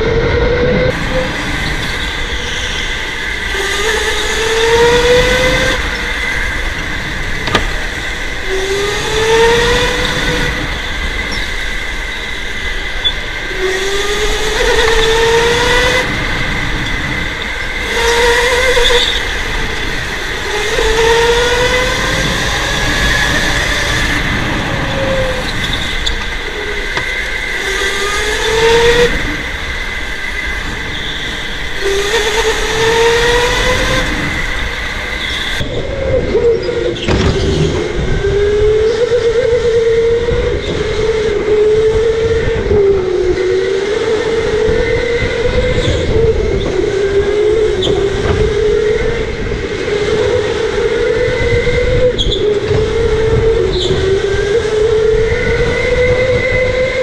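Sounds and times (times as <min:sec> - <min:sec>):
electric motor whine: 0:00.0 - 0:57.0
rumble and road noise: 0:00.0 - 0:57.0.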